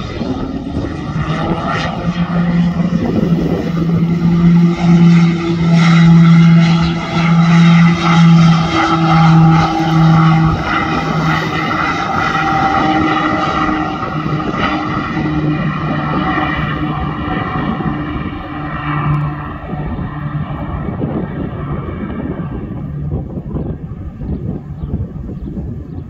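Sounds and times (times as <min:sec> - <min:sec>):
high turboprop whine: 0:00.0 - 0:26.0
low propeller drone: 0:00.0 - 0:26.0.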